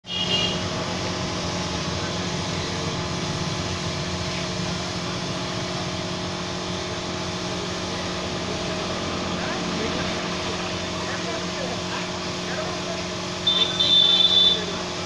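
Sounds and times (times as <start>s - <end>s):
air compressor humming: 0.0s - 15.0s
paint spray gun hissing: 0.1s - 15.0s.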